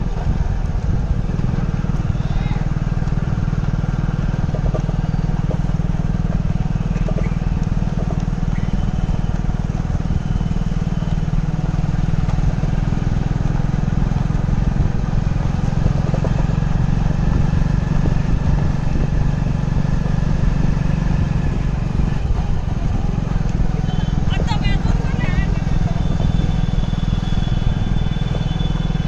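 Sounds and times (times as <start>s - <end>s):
motorcycle engine idling low: 0.0s - 29.0s.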